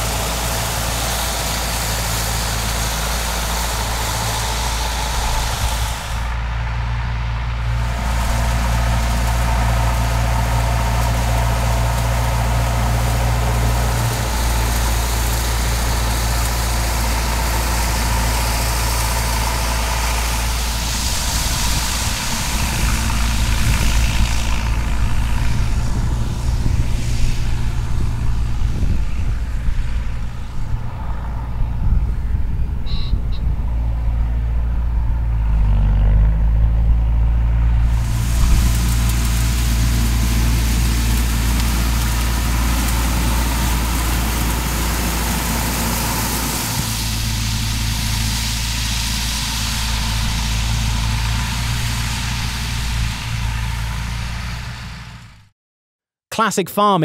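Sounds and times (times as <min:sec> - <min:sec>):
diesel engine running: 0:00.0 - 0:55.5.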